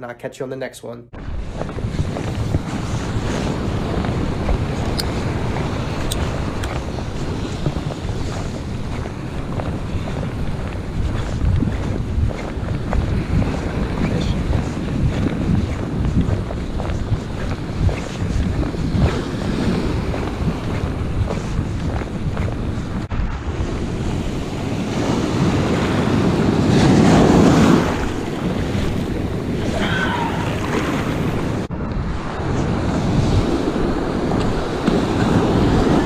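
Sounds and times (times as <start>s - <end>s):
surf breaking on sand: 1.2s - 36.0s
wind buffeting microphone: 1.2s - 36.0s.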